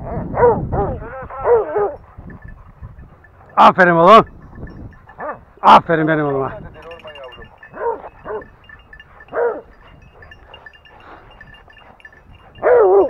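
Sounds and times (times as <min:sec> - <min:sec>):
dogs yelping: 0:00.0 - 0:13.0.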